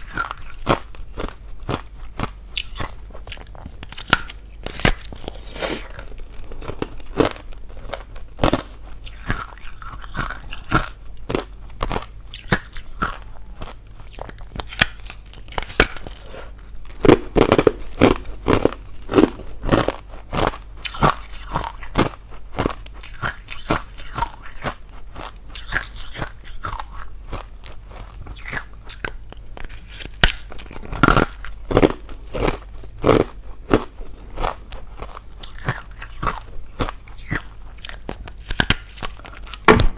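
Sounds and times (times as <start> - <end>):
ice being chewed: 0.0 - 39.6.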